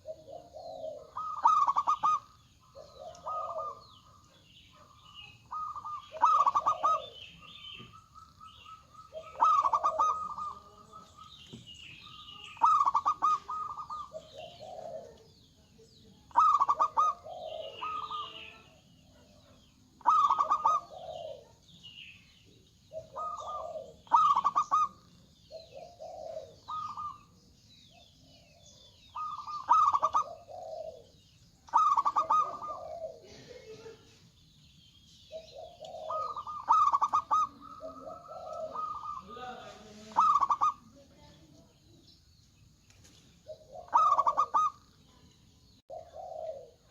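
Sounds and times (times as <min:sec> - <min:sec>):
doves cooing: 0:00.0 - 0:41.8, 0:43.4 - 0:46.9.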